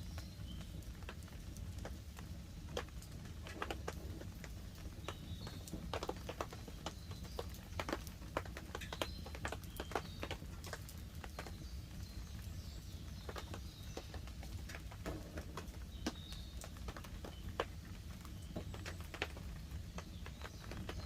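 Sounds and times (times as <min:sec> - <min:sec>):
rain pattering on tarp: 0:00.0 - 0:21.0
wood fire crackling: 0:00.0 - 0:21.0.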